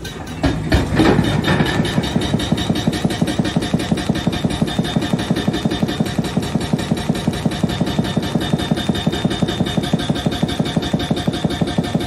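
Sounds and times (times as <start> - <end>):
excavator engine running: 0.0 - 12.0
hydraulic breaker hammering rock: 0.0 - 12.0.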